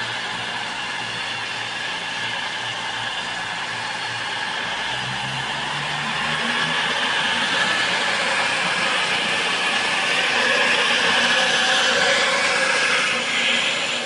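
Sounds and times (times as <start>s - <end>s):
diesel train engines: 0.0s - 14.0s
train wheels on rails: 0.0s - 14.0s.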